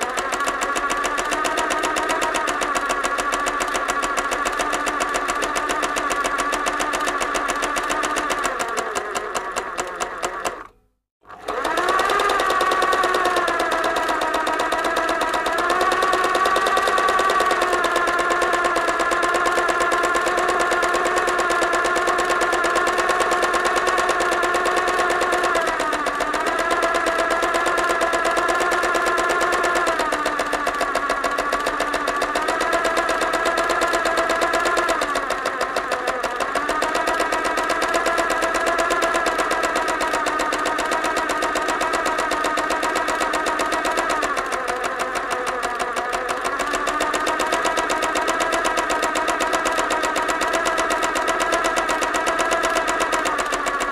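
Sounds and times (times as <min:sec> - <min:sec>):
sewing machine running: 0:00.0 - 0:53.9.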